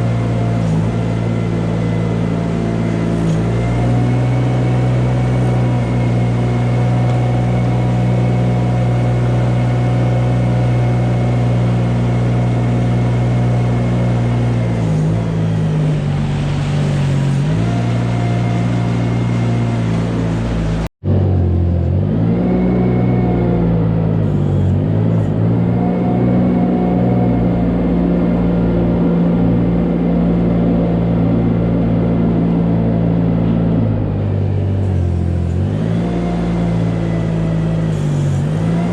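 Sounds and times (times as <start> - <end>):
farm vehicle engine running: 0.0 - 38.9.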